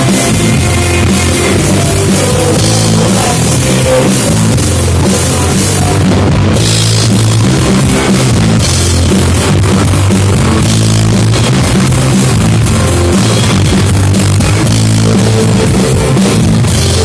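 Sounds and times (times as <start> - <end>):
bass: 0.0 - 17.0
drum kit: 0.0 - 17.0
guitars: 0.0 - 17.0.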